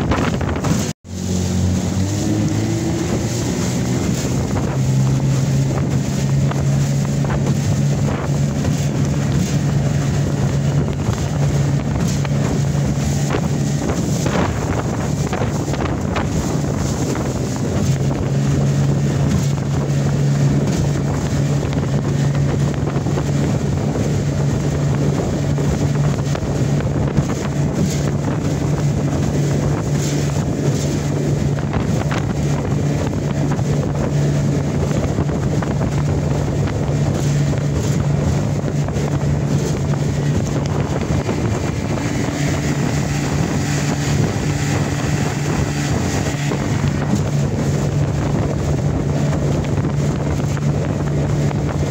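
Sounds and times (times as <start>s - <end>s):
outboard motor drone: 0.0s - 51.9s
water rushing past hull: 0.0s - 51.9s
wind buffeting microphone: 0.0s - 51.9s.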